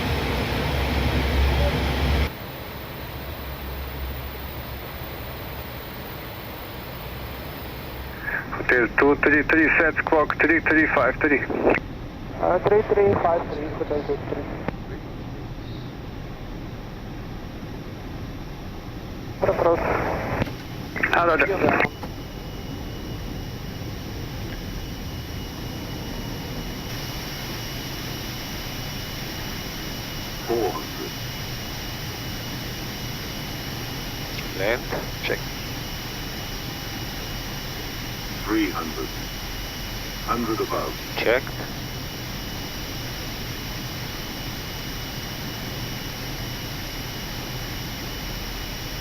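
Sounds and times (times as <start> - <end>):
airflow and engine noise: 0.0 - 49.0
thin high whine: 0.0 - 49.0.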